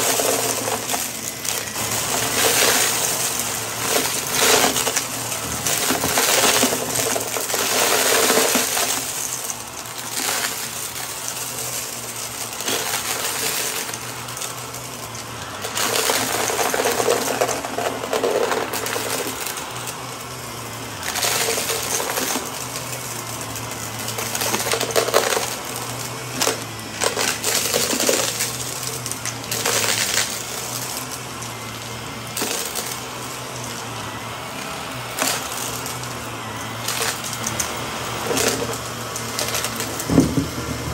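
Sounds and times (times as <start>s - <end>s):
debris crunching and rattling: 0.0s - 40.9s
vacuum cleaner motor humming: 0.0s - 40.9s.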